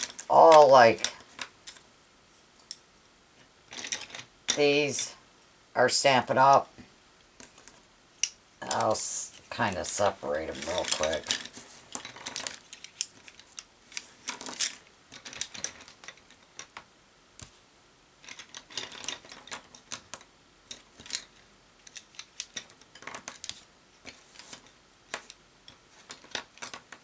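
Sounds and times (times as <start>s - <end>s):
wooden pencils clicking and clattering: 0.0s - 1.9s, 3.7s - 5.2s, 7.4s - 17.5s, 18.2s - 27.0s.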